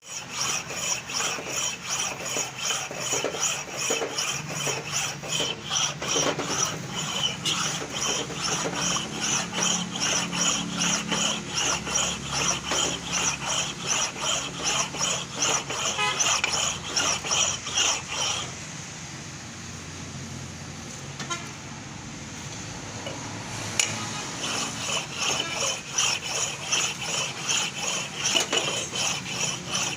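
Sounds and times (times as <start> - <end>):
machine cutter scraping metal: 0.0 - 18.6, 23.0 - 29.9.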